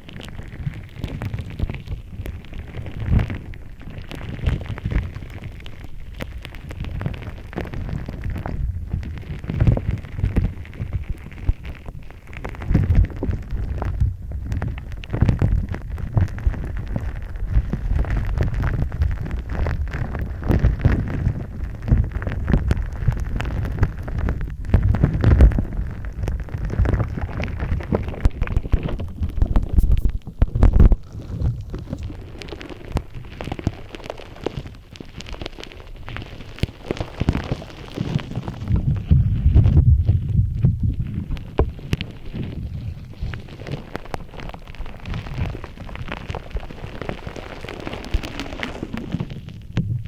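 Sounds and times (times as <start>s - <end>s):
slime crackling and crunching: 0.0s - 50.0s.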